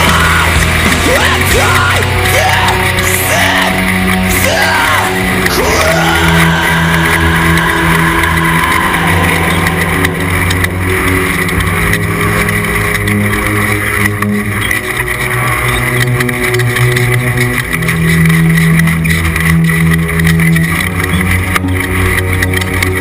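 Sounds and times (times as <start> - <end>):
race truck engine running hard: 0.0 - 23.0.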